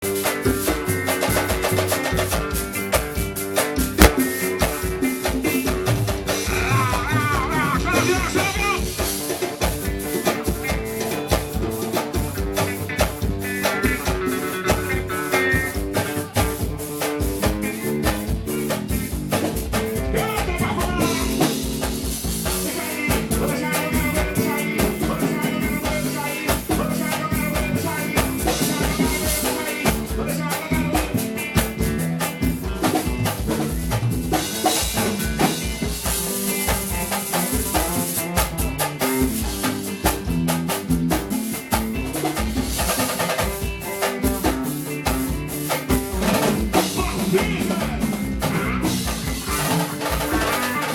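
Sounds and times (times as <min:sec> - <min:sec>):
live band playing upbeat music: 0:00.0 - 0:50.9.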